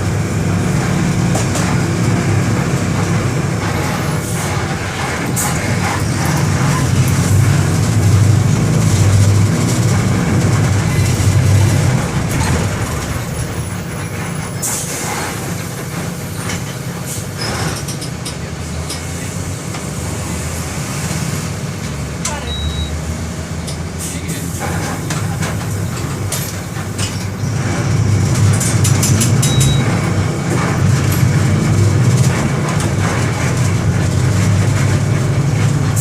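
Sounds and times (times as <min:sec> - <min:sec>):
diesel bus engine running: 0:00.0 - 0:36.0.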